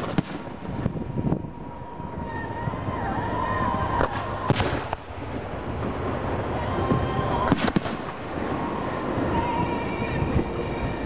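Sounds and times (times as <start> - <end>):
fireworks bursting: 0.0 - 3.0, 3.7 - 11.0
steady background noise: 0.0 - 11.0.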